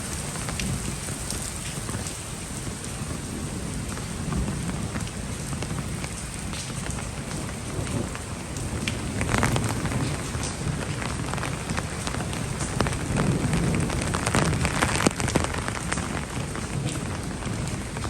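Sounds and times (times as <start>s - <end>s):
heavy rain pouring: 0.0s - 18.0s
raindrops ticking on surfaces: 0.0s - 18.0s.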